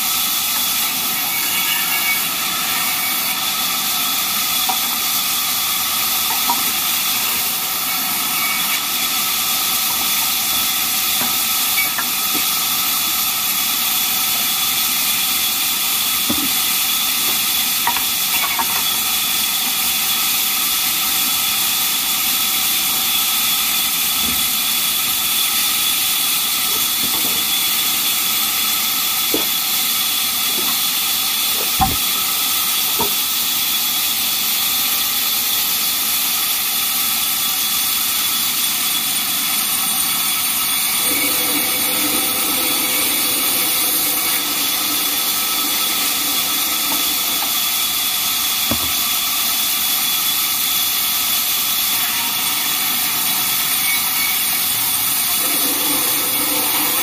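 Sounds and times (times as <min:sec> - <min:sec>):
band saw cutting timber: 0:00.0 - 0:20.2, 0:22.4 - 0:33.8, 0:38.7 - 0:51.9, 0:52.8 - 0:57.0.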